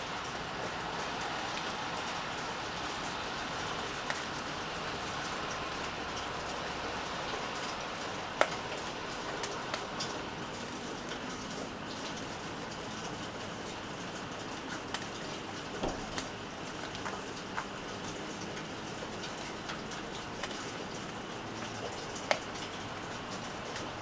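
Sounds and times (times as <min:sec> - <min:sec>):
steady rain: 0:00.0 - 0:24.0
drops ticking on a surface: 0:00.2 - 0:24.0.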